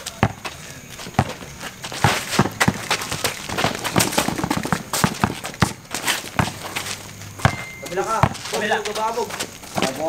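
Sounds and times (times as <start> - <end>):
basketball bouncing on concrete: 0.0 - 10.0
sneakers scuffing on concrete: 0.0 - 10.0.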